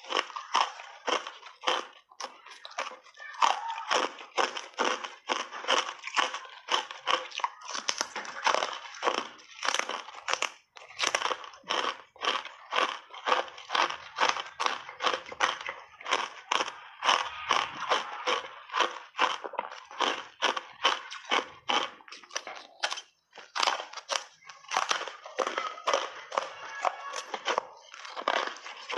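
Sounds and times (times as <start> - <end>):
ice being chewed crunching: 0.0 - 28.9.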